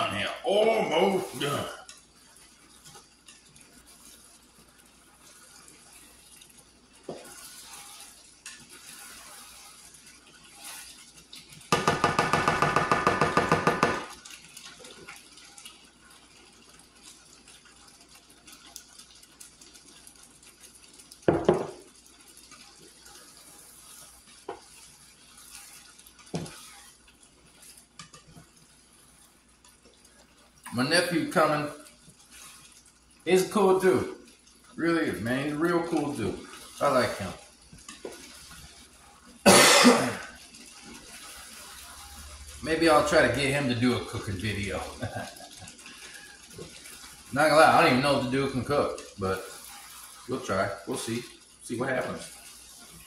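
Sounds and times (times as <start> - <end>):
meat sizzling in a pan: 0.0 - 53.0
spatula scraping a pan: 0.8 - 53.0.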